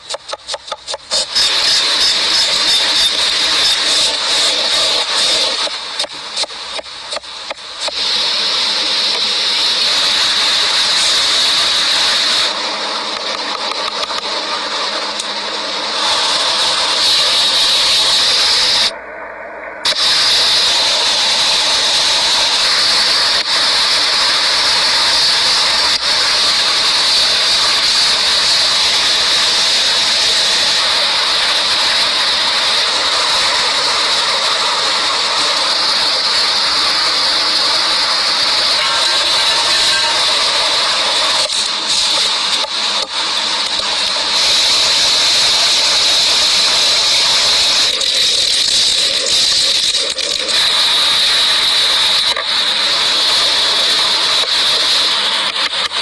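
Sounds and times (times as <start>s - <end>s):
loud shrill hiss: 0.0s - 19.1s, 19.8s - 56.0s.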